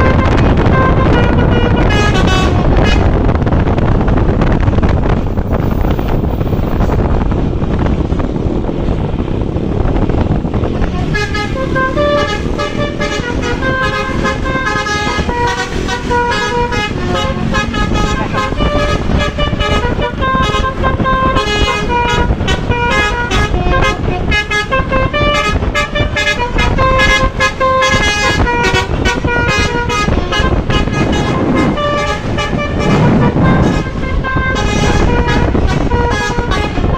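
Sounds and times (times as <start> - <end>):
musical bus horn: 0.0 - 3.7, 10.0 - 36.9
road and wind noise: 0.0 - 36.9.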